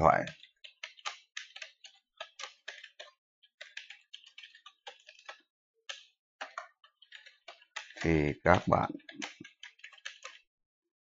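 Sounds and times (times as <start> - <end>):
typing on computer keyboard: 0.0 - 10.5.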